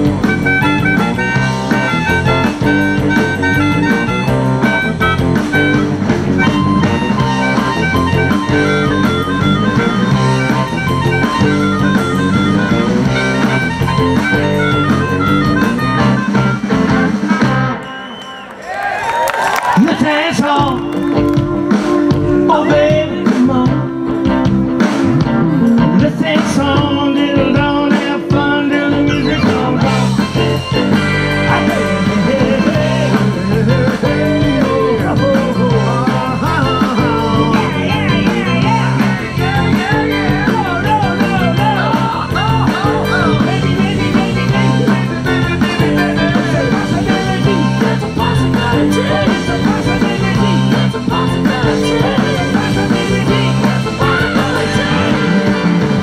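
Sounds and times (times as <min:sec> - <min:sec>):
drum kit: 0:00.0 - 0:18.3, 0:19.4 - 0:56.0
electric guitars: 0:00.0 - 0:56.0
keyboard: 0:00.0 - 0:56.0.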